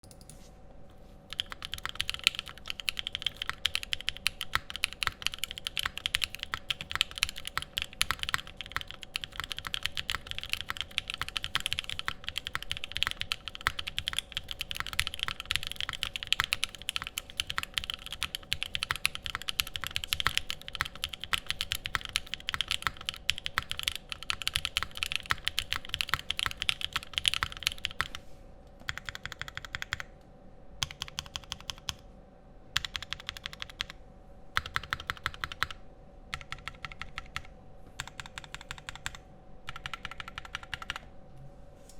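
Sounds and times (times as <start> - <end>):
typing on mechanical keyboard: 1.3 - 28.2, 28.8 - 30.1, 30.8 - 32.0, 32.8 - 34.0, 34.6 - 41.0.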